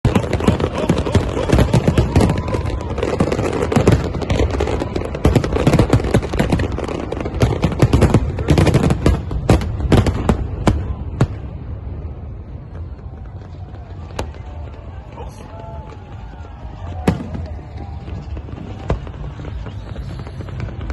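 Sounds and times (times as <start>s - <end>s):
fireworks crackling bangs: 0.0s - 20.9s.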